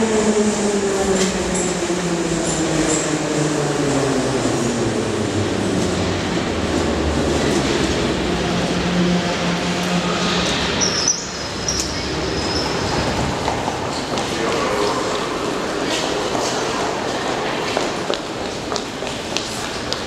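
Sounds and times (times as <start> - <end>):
train cars rumbling and rattling: 0.0 - 20.0.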